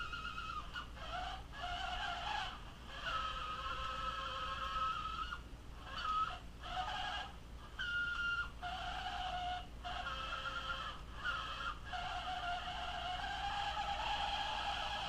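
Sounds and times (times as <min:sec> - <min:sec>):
toy car motor whining: 0:00.0 - 0:15.0.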